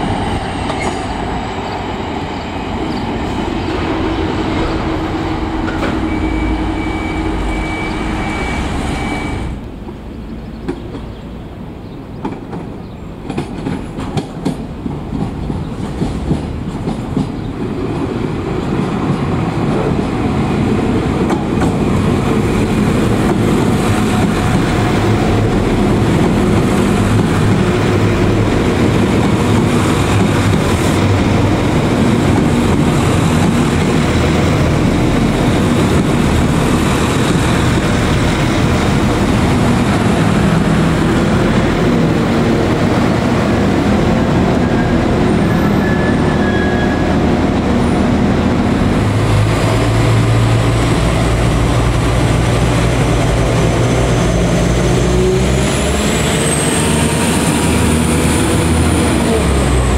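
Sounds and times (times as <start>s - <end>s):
train engines rumbling: 0.0s - 59.9s
train wheels on rails: 0.0s - 59.9s.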